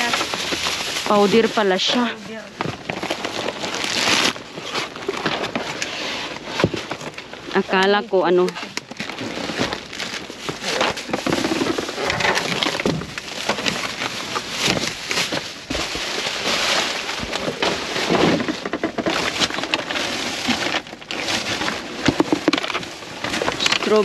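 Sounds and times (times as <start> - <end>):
cardboard boxes shifting: 0.0 - 24.0
plastic packaging crinkling: 0.0 - 24.0.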